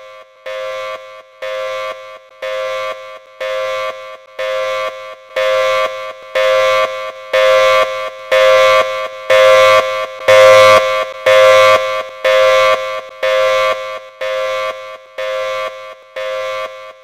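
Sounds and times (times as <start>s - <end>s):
pulsing warning siren: 0.0s - 17.0s.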